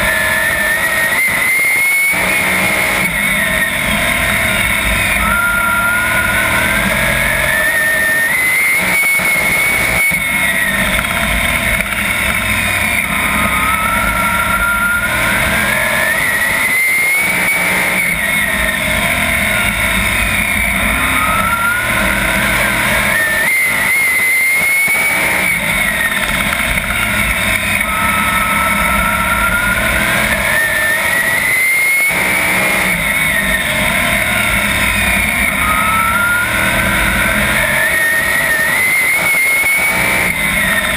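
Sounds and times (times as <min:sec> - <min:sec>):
race car engine at speed: 0:00.0 - 0:40.9.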